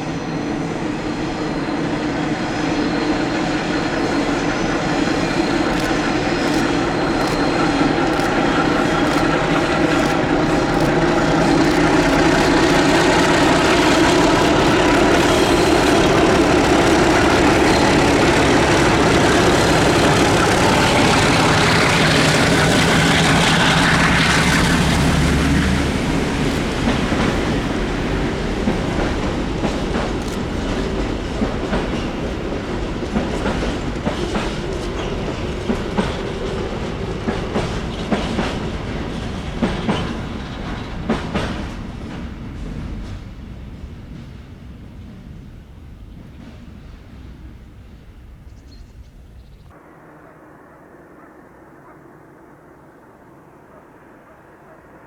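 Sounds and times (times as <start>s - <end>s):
diesel locomotive engine: 0.0s - 55.0s
train wheels clicking over rail joints: 2.6s - 48.4s.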